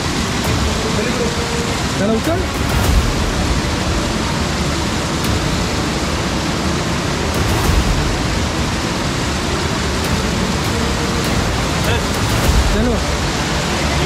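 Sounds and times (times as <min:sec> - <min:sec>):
stream rushing over boulders: 0:00.0 - 0:14.0.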